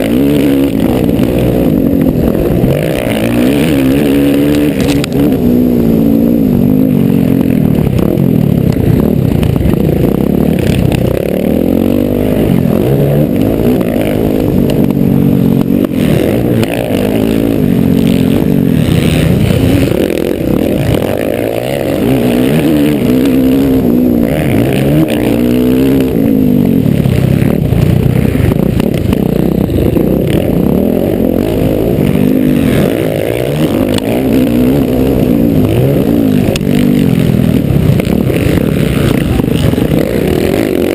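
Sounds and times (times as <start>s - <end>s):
bike rattling: 0.0s - 40.9s
motocross engine revving: 0.0s - 40.9s.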